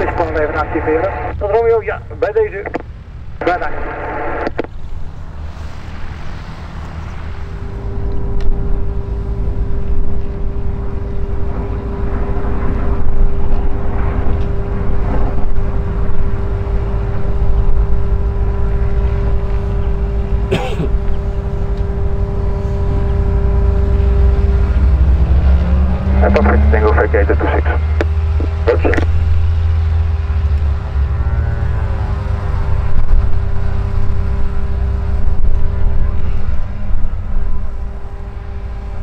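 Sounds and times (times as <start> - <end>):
low engine rumble: 0.0 - 39.0
turbine starter whine: 6.1 - 39.0.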